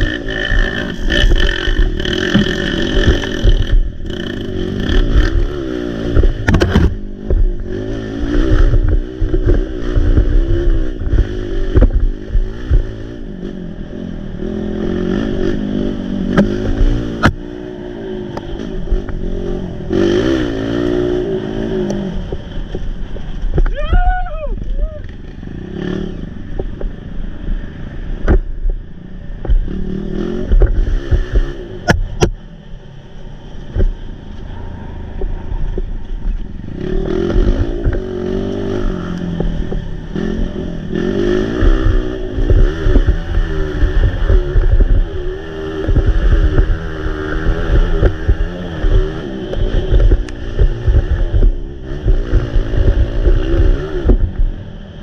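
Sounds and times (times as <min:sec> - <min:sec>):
motorcycle engine revving: 0:00.0 - 0:23.8, 0:25.0 - 0:55.0.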